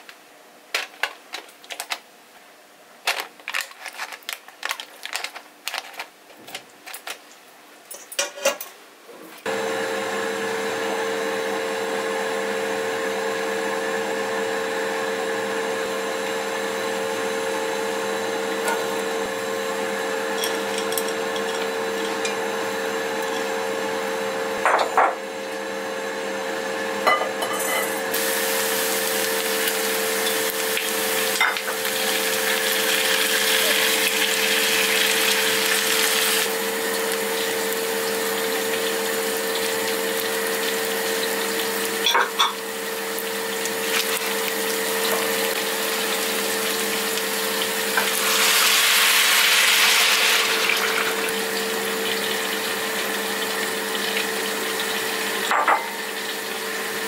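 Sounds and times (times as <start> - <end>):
kitchen motor humming: 9.4 - 57.0.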